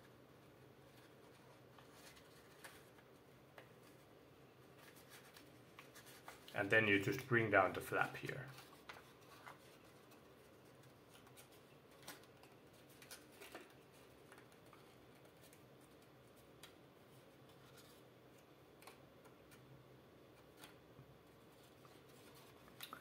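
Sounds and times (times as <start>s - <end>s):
paper crinkling while folded: 0.8s - 19.6s, 20.3s - 23.0s.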